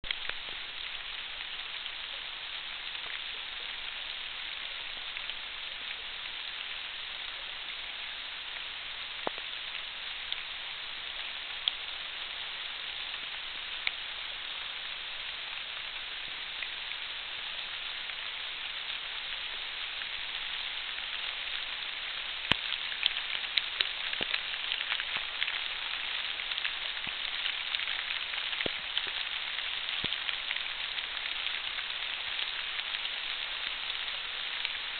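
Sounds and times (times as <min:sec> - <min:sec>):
rain hissing on leaves: 0:00.0 - 0:34.9
raindrop ticks: 0:00.0 - 0:34.9.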